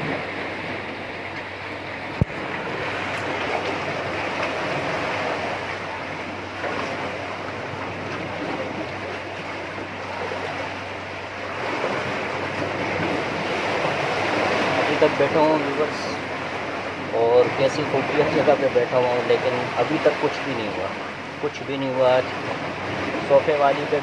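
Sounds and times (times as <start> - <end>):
sea water splashing around pilings: 0.0 - 24.0.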